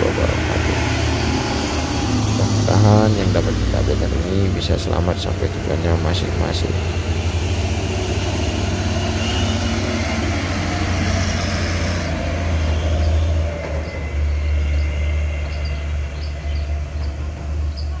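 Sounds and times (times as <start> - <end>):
diesel truck engine droning: 0.0 - 18.0.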